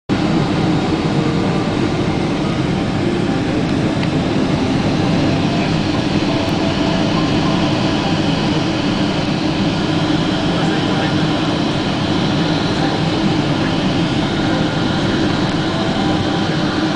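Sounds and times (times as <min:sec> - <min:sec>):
airliner cabin rumble: 0:00.1 - 0:16.9.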